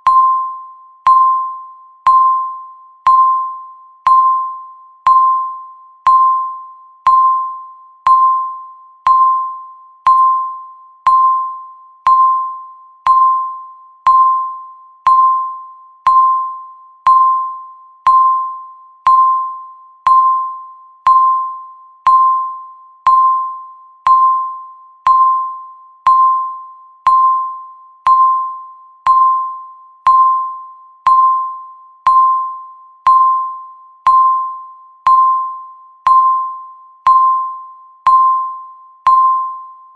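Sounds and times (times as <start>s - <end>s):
electronic timer beep: 0.0s - 39.9s.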